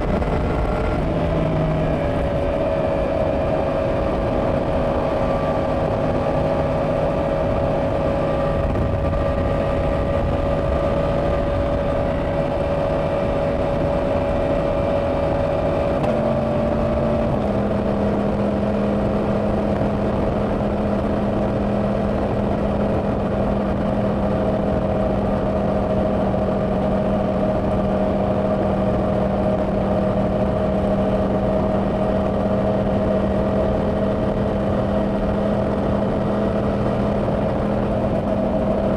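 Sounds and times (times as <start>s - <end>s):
motorcycle engine cruising: 0.0s - 38.9s
wind rush: 0.0s - 38.9s.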